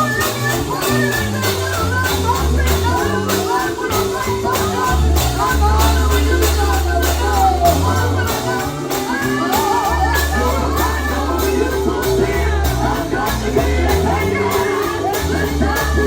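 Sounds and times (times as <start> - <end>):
bass line: 0.0 - 16.0
drum beat: 0.0 - 16.0
gospel choir singing with vibrato: 0.0 - 16.0
tambourine beat: 0.0 - 16.0.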